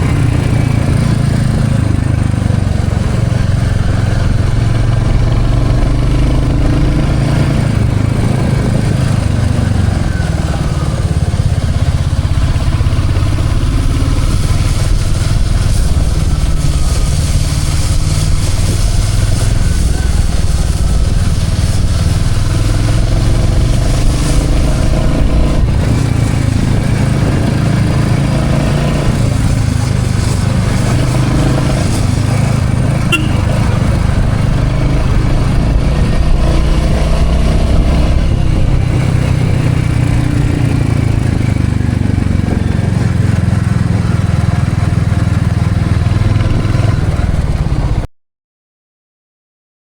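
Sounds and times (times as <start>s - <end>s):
motorcycle engine rumbling: 0.0s - 48.1s.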